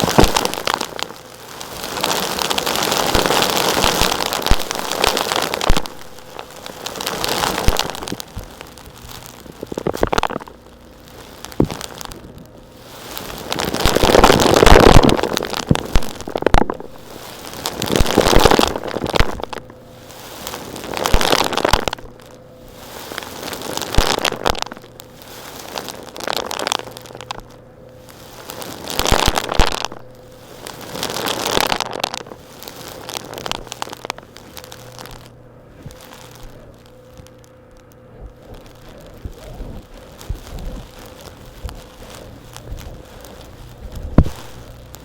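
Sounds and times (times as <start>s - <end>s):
faint steady hum: 0.0s - 45.0s
rocks crunching and scraping: 0.0s - 45.0s.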